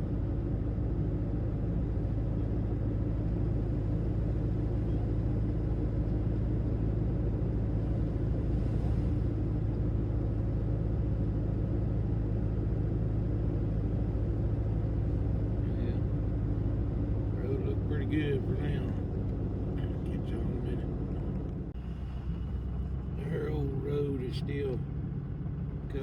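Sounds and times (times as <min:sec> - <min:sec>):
truck engine and tyres droning: 0:00.0 - 0:26.0.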